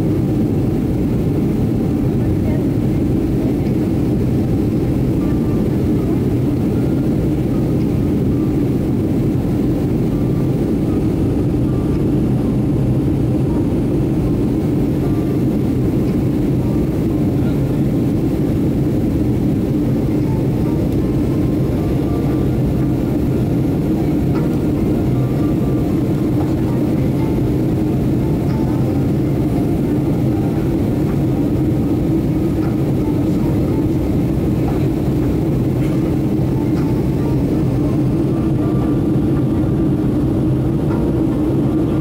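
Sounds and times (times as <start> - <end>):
airliner cabin noise: 0.0 - 42.0.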